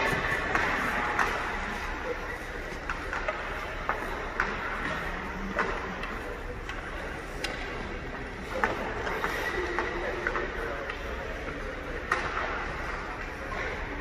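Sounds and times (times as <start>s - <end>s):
hockey sticks clacking on ice: 0.0s - 14.0s
ice rink hum: 0.0s - 14.0s.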